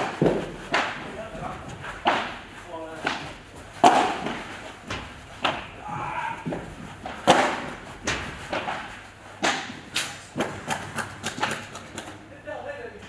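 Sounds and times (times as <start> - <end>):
padel ball struck with rackets: 0.0 - 1.1, 2.0 - 5.8, 6.4 - 12.1.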